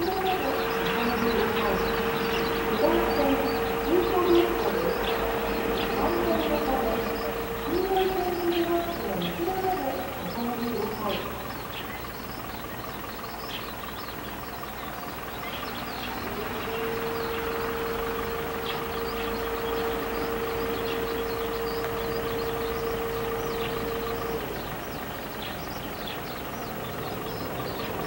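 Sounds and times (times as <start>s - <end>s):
birds chirping: 0.0s - 28.0s
electric train approaching: 0.0s - 28.0s
steady whining tone: 0.0s - 28.0s.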